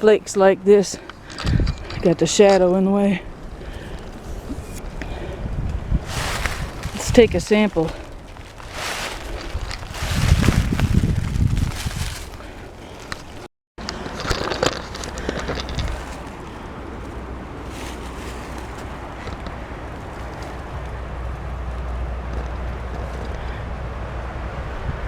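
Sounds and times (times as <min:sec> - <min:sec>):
wind buffeting microphone: 0:00.7 - 0:25.0
crackling and rustling: 0:00.9 - 0:23.6.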